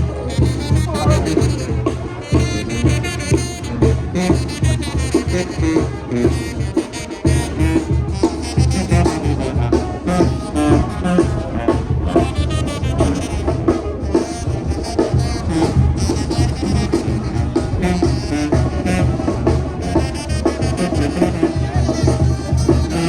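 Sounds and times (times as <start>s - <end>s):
brass band music with drums: 0.0s - 23.0s.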